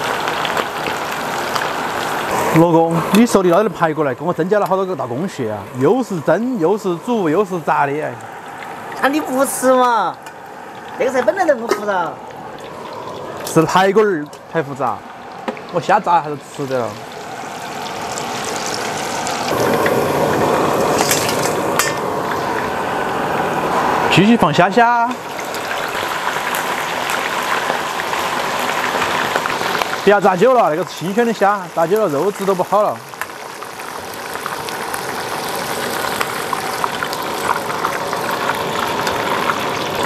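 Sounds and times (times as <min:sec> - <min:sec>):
meat sizzling in hot oil: 0:00.0 - 0:40.0.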